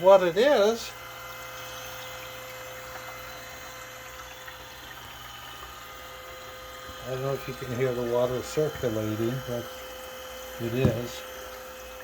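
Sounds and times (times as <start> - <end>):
chiller motor hum: 0.0 - 12.0.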